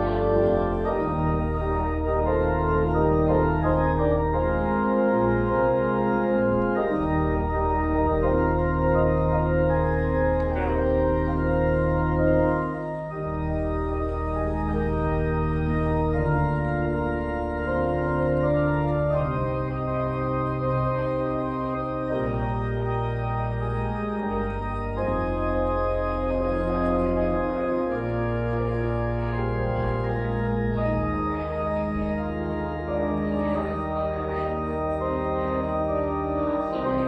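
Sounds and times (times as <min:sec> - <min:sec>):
church organ playing chords: 0:00.0 - 0:37.0.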